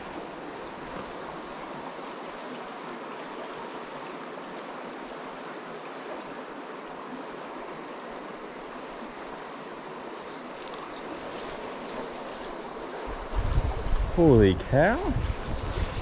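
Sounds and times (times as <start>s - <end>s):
stream rushing over riffles: 0.0s - 16.0s.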